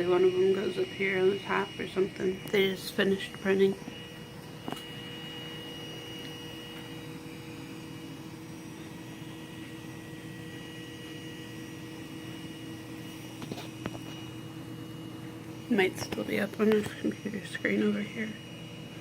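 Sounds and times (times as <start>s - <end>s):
cooling fans whirring: 0.0s - 19.0s.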